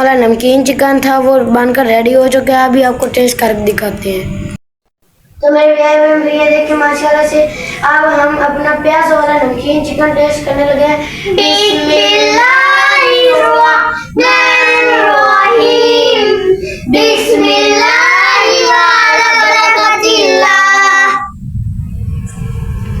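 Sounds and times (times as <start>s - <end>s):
low rumbling noise: 0.0s - 23.0s.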